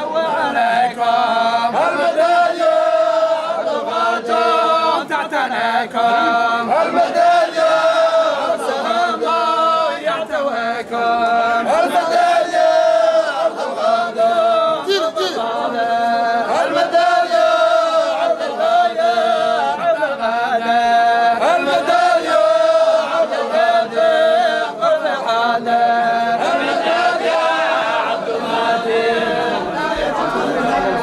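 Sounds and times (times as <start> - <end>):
men chanting in unison: 0.0 - 31.0.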